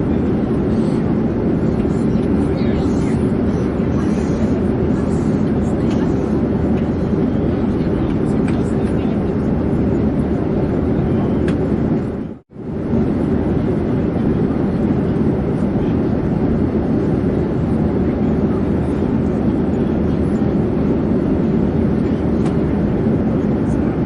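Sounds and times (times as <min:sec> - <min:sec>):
airplane engine drone: 0:00.0 - 0:24.0.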